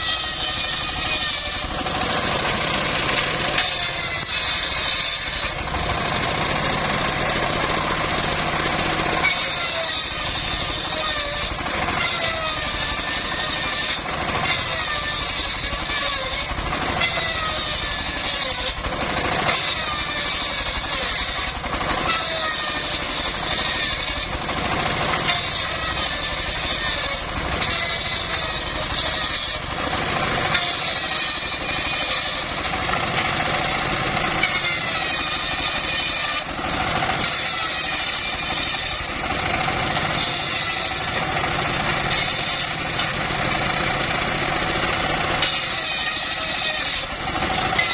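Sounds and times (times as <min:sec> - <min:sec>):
circular saw cutting wood: 0:00.0 - 0:47.9.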